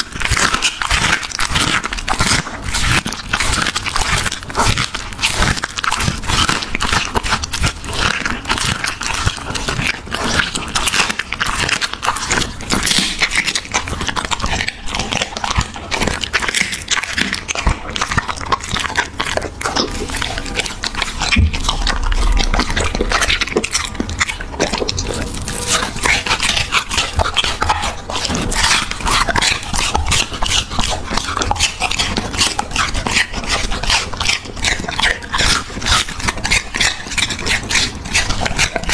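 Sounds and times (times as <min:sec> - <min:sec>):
dog chewing and crunching: 0:00.0 - 0:38.9.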